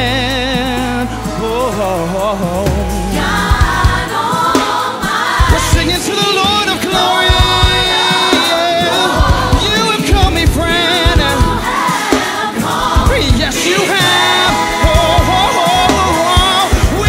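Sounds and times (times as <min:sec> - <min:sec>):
band playing: 0:00.0 - 0:17.0
choir singing gospel: 0:00.0 - 0:17.0
steady low drum beat: 0:00.0 - 0:17.0.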